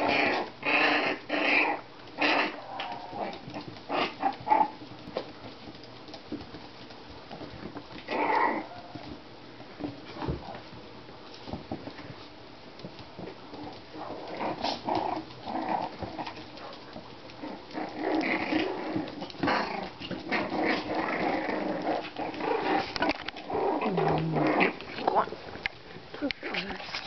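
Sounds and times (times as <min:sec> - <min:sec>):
puppies growling and yapping: 0:00.0 - 0:06.5, 0:07.3 - 0:10.8, 0:12.8 - 0:27.0.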